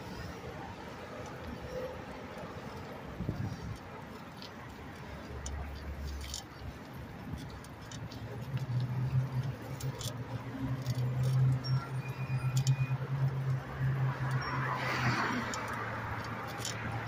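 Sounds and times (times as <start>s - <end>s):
bicycle rattling and clicking: 0.0s - 17.0s
road traffic: 0.0s - 17.0s.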